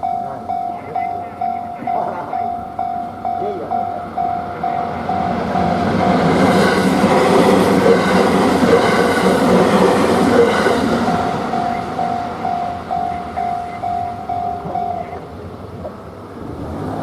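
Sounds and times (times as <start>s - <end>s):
level crossing warning bell: 0.0s - 15.6s
tram wheels on rails: 0.0s - 17.0s.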